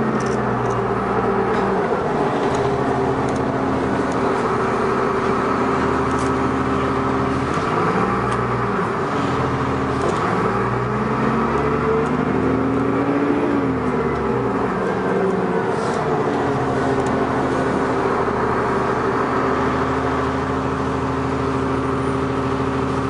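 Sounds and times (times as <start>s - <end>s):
bus diesel engine revving: 0.0s - 23.0s.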